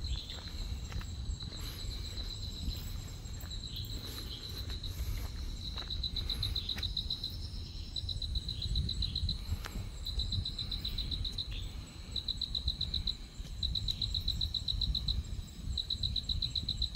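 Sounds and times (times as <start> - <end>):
steady low rumble: 0.0 - 16.5
insects chirping: 0.0 - 16.9.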